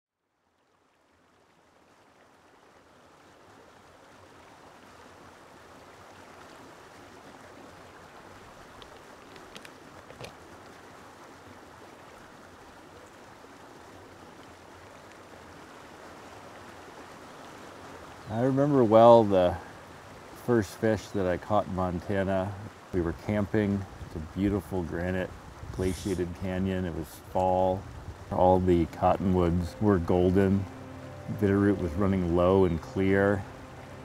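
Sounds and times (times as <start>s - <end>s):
flowing stream: 0.1s - 34.0s.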